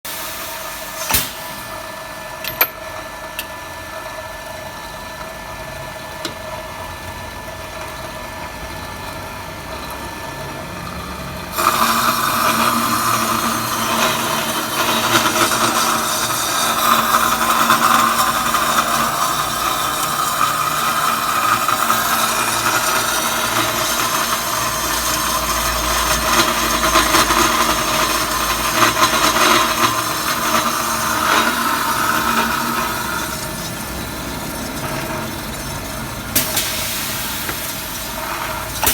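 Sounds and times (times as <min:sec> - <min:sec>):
pipe-cutting machine humming: 0:00.1 - 0:38.9.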